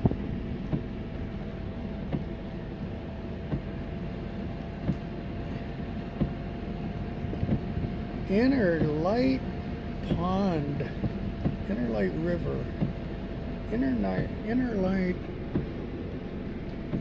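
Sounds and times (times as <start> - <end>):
car engine rumble inside cabin: 0.0 - 17.0
faint steady hum: 0.0 - 17.0.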